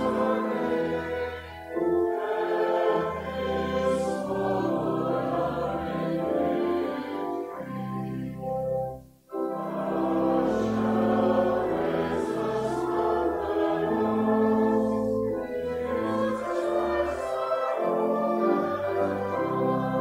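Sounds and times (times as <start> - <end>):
accompaniment: 0.0 - 20.0
congregation singing a hymn: 0.0 - 20.0.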